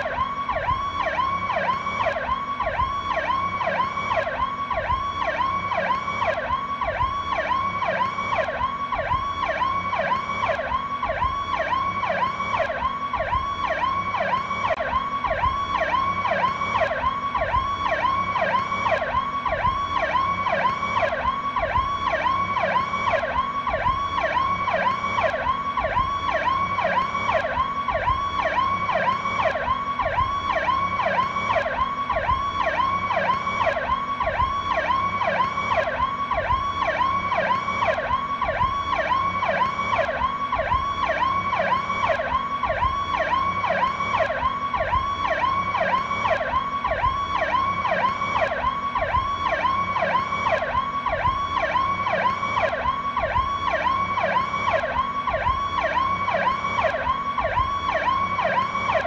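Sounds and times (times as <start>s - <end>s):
police siren warbling: 0.0s - 59.0s.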